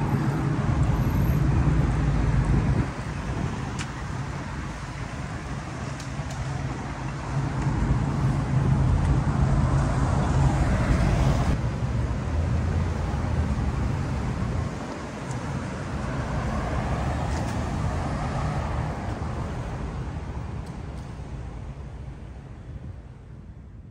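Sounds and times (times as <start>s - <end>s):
low traffic rumble: 0.0s - 23.9s
vehicles passing: 0.0s - 23.9s.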